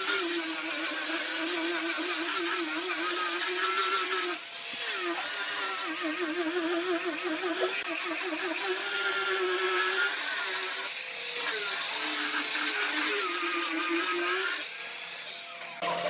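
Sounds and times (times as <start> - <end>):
hiss of cutting wood: 0.0 - 15.8
power tool motor hum: 0.0 - 16.0.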